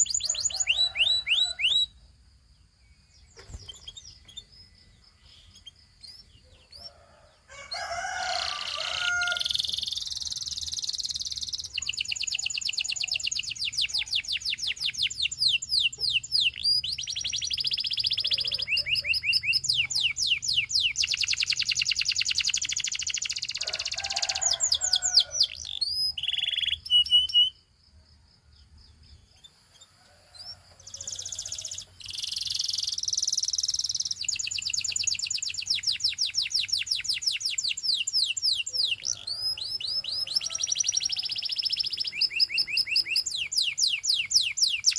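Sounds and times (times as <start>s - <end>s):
canary singing trills: 0.0s - 2.0s, 2.6s - 27.8s, 28.6s - 44.9s.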